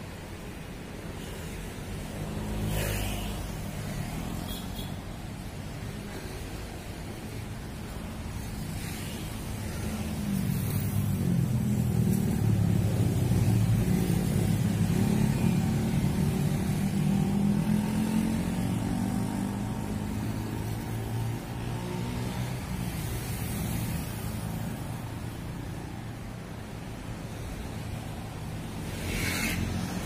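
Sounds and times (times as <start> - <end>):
cars and motorcycles driving past: 0.0 - 30.0.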